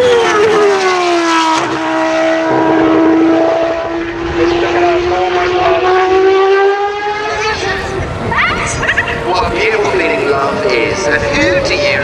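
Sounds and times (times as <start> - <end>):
racing car engine passing at high revs: 0.0 - 12.0.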